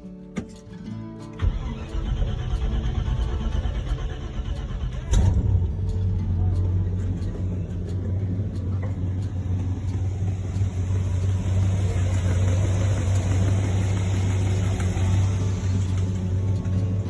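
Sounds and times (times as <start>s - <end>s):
car engine idling: 1.4s - 17.0s.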